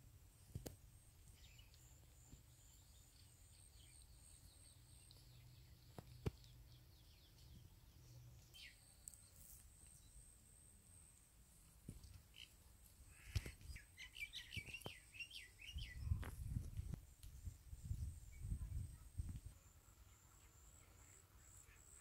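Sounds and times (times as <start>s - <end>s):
faint bird chirps: 1.2s - 10.3s, 12.2s - 16.4s, 17.4s - 22.0s.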